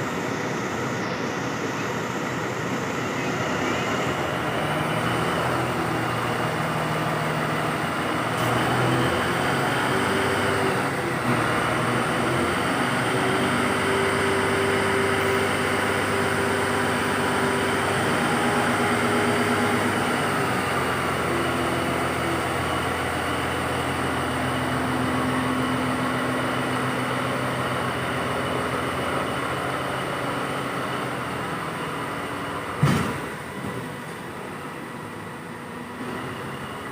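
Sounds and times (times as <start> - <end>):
diesel locomotive engine drone: 0.0 - 36.9.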